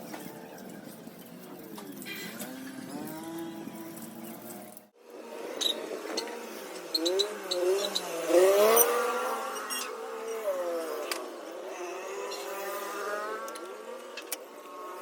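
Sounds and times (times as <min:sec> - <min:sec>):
motorcycle engine revving: 0:01.8 - 0:15.0.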